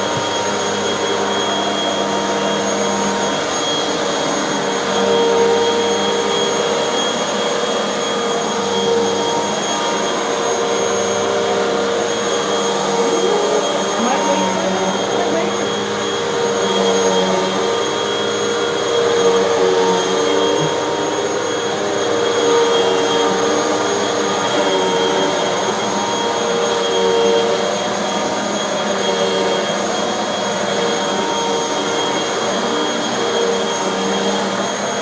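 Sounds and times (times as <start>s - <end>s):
vacuum cleaner running on carpet: 0.0s - 35.0s.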